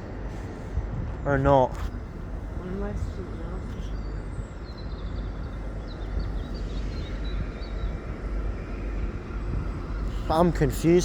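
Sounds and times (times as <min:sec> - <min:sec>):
trains idling rumble: 0:00.0 - 0:11.0.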